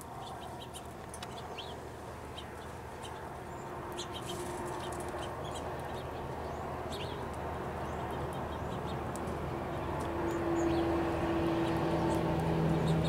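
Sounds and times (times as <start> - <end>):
distant engine hum: 0.0 - 13.0.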